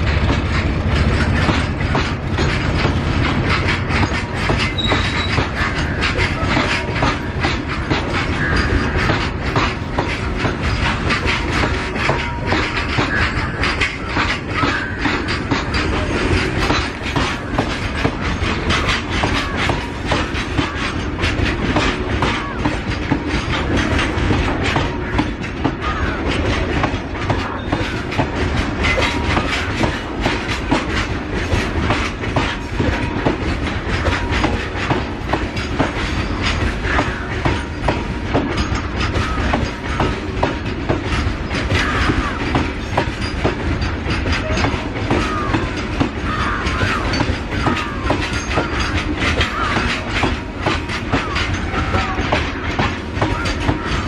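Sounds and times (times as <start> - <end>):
freight train wheels clattering on rails: 0.0 - 54.0.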